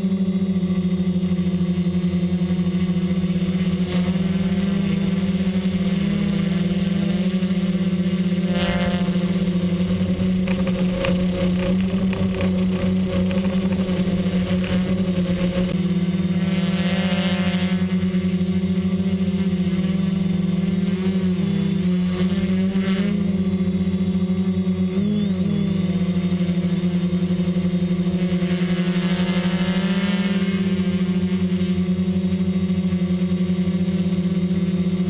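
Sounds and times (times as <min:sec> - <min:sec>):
drone propellers humming: 0:00.0 - 0:35.0.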